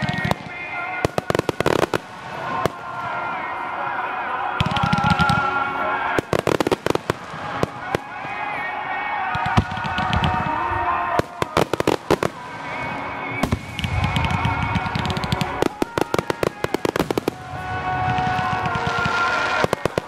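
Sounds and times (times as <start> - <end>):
fireworks crackling and popping: 0.0 - 20.0
music playing: 0.0 - 20.0.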